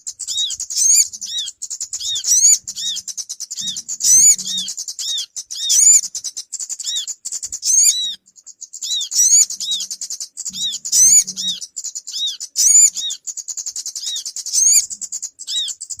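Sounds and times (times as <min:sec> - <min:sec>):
loud whistled bird notes: 0:00.0 - 0:16.0
small birds chattering trill: 0:00.0 - 0:16.0.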